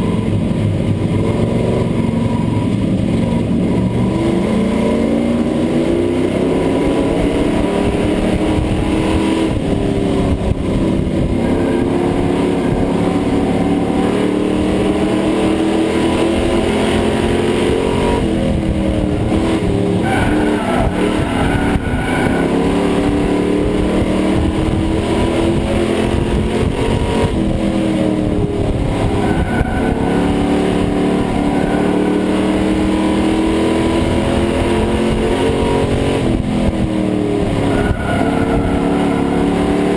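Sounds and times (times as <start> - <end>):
race engine revving: 0.0 - 39.9
wind and road noise: 0.0 - 39.9.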